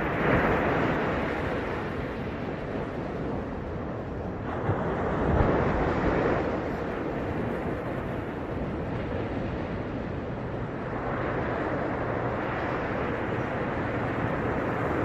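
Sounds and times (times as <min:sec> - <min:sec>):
surf breaking on beach: 0:00.0 - 0:03.6, 0:04.3 - 0:15.0.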